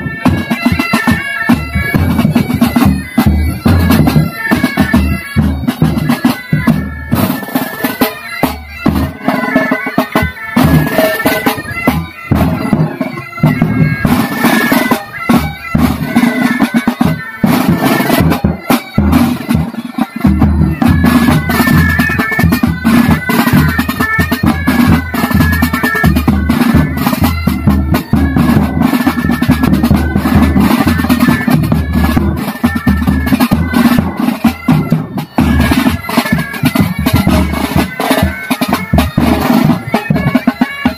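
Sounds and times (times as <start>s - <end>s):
bagpipes playing melody with drone: 0.0s - 40.9s
side drums beating: 0.0s - 40.9s.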